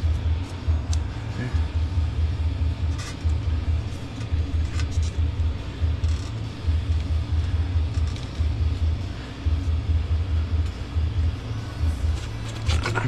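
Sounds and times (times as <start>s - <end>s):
low throbbing rumble: 0.0s - 13.0s.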